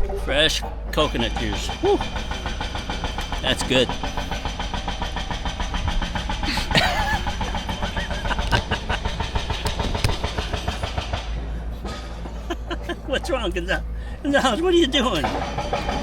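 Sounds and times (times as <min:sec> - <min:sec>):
small engine pulsing: 0:00.0 - 0:16.0.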